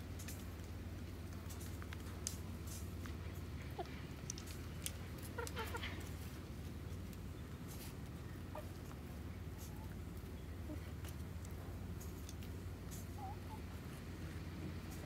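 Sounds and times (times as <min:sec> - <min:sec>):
beaks tapping on ground: 0:00.1 - 0:15.0
hens clucking softly: 0:01.4 - 0:15.0.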